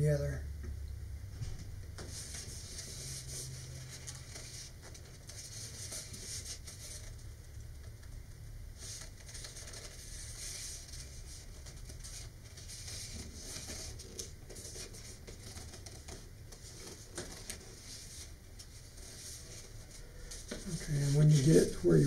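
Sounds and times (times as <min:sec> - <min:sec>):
paper rustling and scraping: 0:01.4 - 0:07.3, 0:08.7 - 0:22.0.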